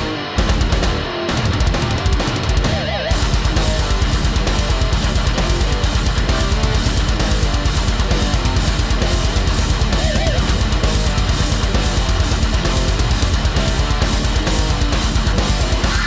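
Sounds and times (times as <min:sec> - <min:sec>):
fast bass drum beat: 0:00.0 - 0:16.0
heavy metal music: 0:00.0 - 0:16.0.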